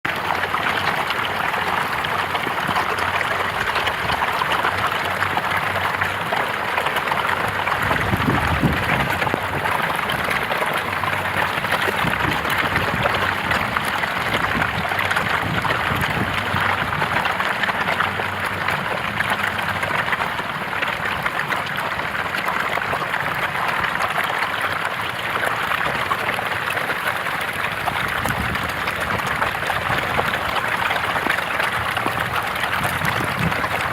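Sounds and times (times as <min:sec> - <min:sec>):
running water rushing: 0:00.0 - 0:33.9.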